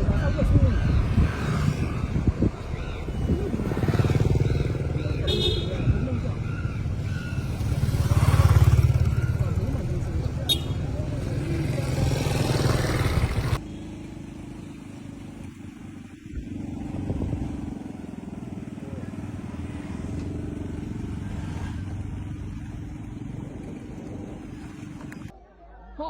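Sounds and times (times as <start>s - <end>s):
vehicle engine: 0.0s - 25.4s.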